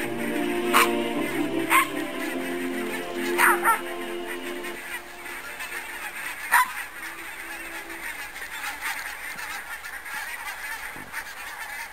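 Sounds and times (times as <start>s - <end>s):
geese honking: 0.0s - 11.9s.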